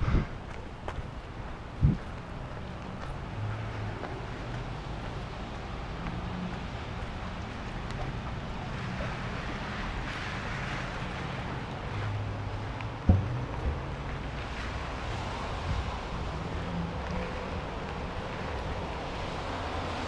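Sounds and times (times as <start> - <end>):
wind rumbling on microphone: 0.0 - 2.9, 4.8 - 19.9
traffic hiss on wet streets: 0.0 - 20.0.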